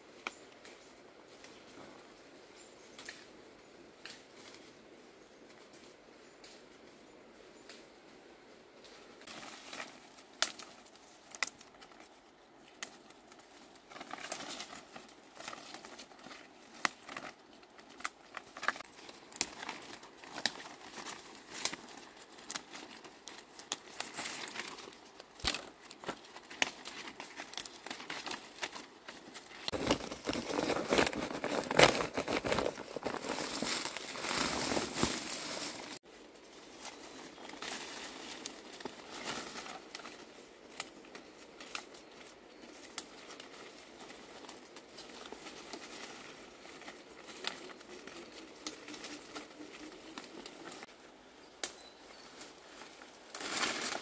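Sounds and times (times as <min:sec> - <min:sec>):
leaves and bamboo rustling: 0:00.0 - 0:54.0.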